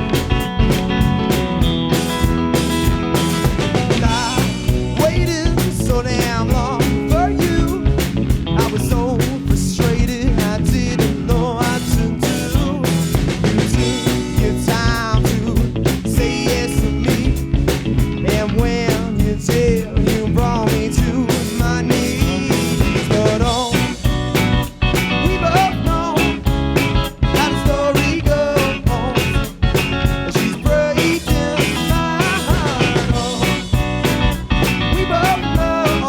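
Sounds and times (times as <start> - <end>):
drum kit beat: 0.0 - 36.0
guitars: 0.0 - 36.0.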